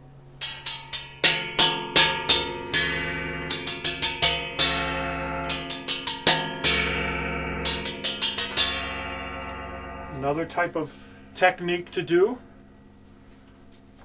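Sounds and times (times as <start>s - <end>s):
muted gong struck with brushes: 0.4s - 13.8s.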